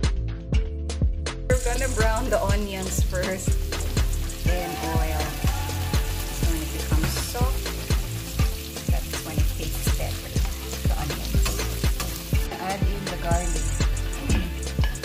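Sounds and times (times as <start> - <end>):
background music with a beat: 0.0 - 15.0
onions sizzling in a frying pan: 1.8 - 15.0.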